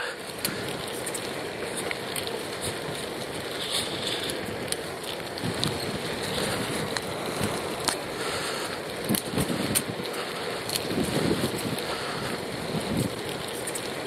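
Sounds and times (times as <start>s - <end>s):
wind rush on microphone: 0.0s - 14.0s.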